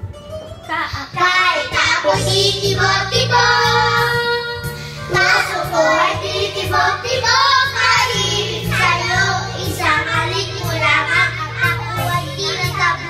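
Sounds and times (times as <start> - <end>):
backing music with bass: 0.0 - 13.0
girls singing into microphones: 1.1 - 13.0.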